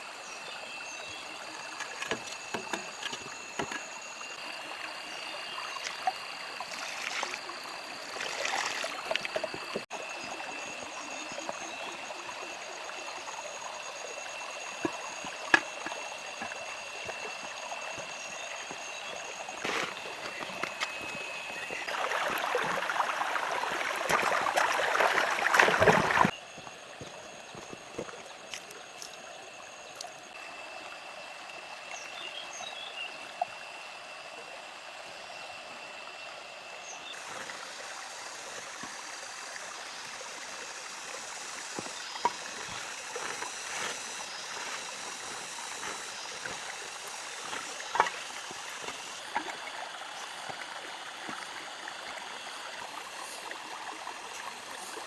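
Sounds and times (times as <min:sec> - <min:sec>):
flowing water rushing: 0:01.0 - 0:32.0, 0:37.1 - 0:55.0.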